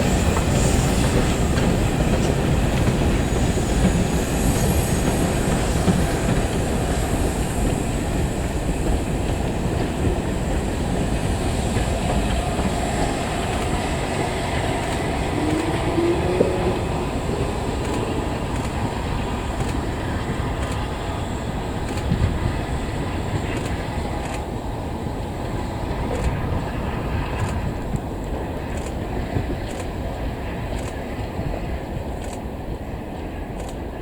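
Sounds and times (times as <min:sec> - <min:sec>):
wheels clicking over rail joints: 0:00.0 - 0:32.5
train passing: 0:00.0 - 0:34.0.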